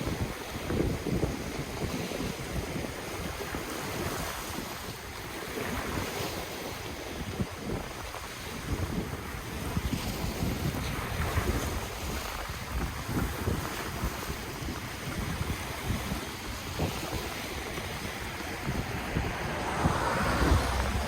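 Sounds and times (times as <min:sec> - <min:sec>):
ocean waves on shore: 0:00.0 - 0:21.0
wind buffeting microphone: 0:00.0 - 0:21.0.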